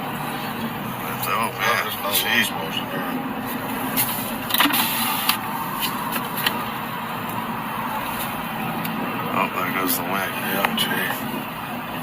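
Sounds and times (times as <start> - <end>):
passing road traffic: 0.0 - 12.0.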